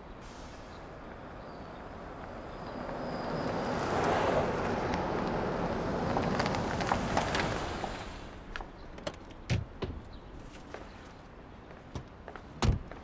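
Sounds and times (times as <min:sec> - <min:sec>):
car tyre and road noise: 0:00.0 - 0:13.0.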